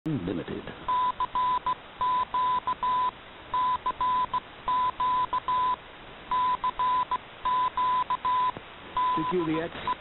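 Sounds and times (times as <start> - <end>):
steady radio hiss: 0.1 - 10.0
morse code tone: 0.9 - 10.0.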